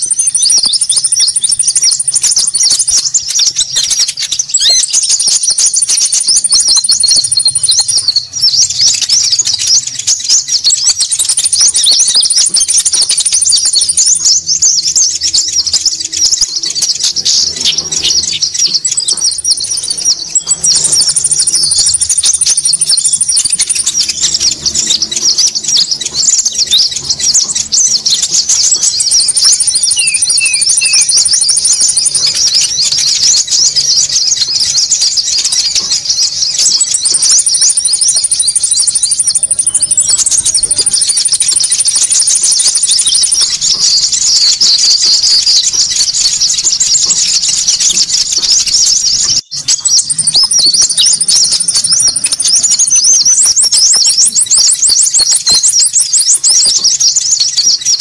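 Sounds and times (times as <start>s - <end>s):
small birds chattering: 0.0s - 58.0s
thin high bird trills: 0.0s - 58.0s.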